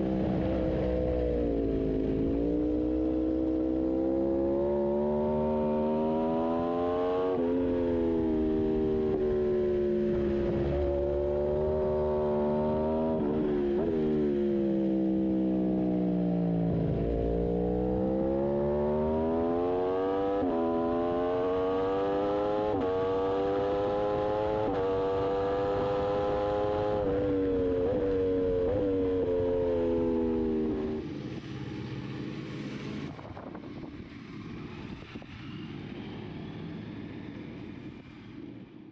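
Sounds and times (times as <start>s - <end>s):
motorcycle engine revving: 0.0s - 37.6s.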